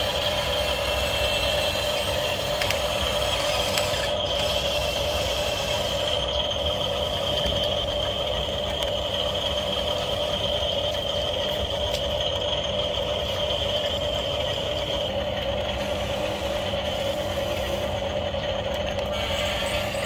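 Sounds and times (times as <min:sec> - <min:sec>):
toy excavator motors whining: 0:00.0 - 0:20.0.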